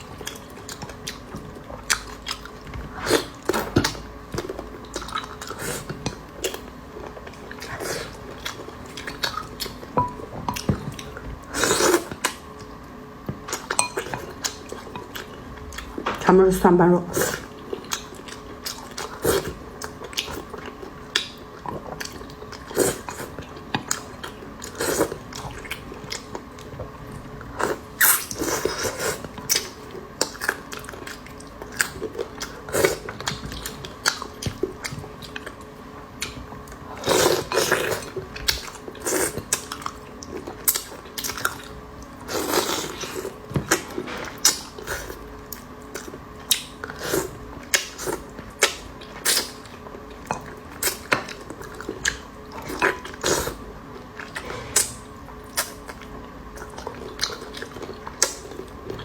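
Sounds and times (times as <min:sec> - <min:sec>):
person chewing food: 0:00.0 - 0:16.2, 0:17.2 - 0:59.0.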